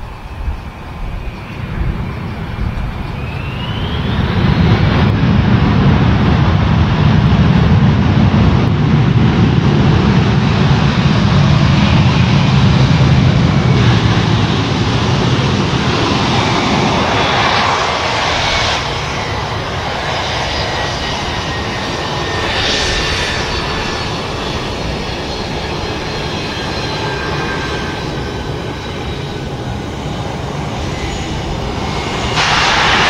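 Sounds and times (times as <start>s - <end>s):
jet engines spooling up: 0.0s - 33.0s.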